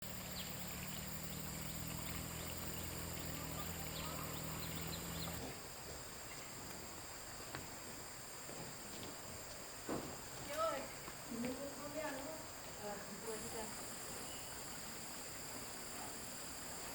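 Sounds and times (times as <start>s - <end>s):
insects chirring: 0.0s - 16.9s.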